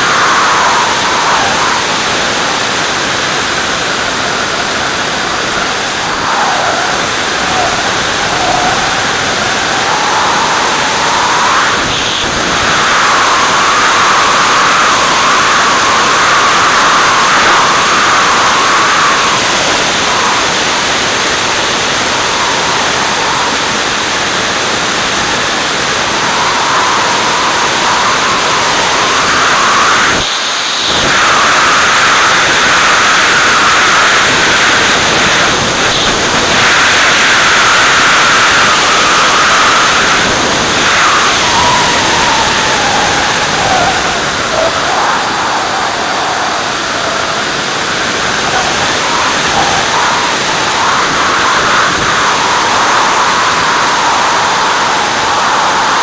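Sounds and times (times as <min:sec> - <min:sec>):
aircraft wind and engine rush: 0:00.0 - 0:56.0
wavering whine: 0:00.0 - 0:56.0.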